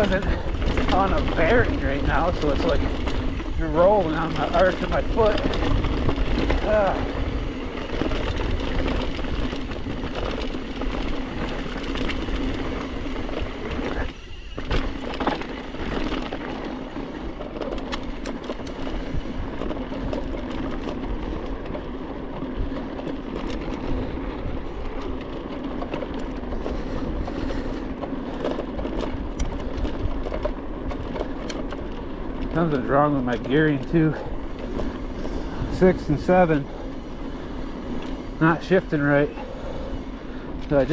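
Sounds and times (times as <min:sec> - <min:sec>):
bike tyre rumble and rattling: 0:00.0 - 0:40.9.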